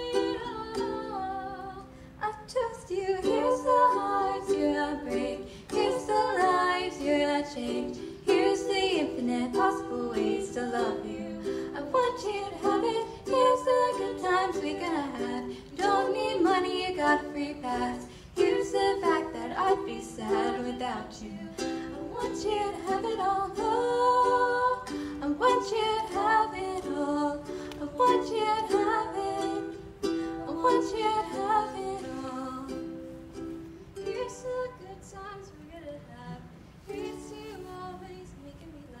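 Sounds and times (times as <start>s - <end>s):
ukulele strumming chords: 0.0s - 38.2s.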